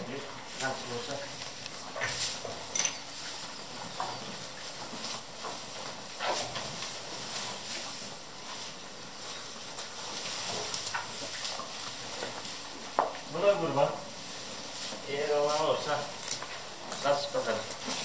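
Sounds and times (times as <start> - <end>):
hay rustling: 0.0 - 18.0.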